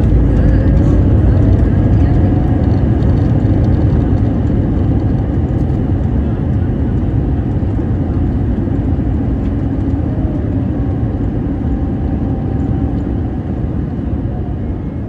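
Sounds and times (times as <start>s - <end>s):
airliner engine rumble: 0.0s - 15.0s.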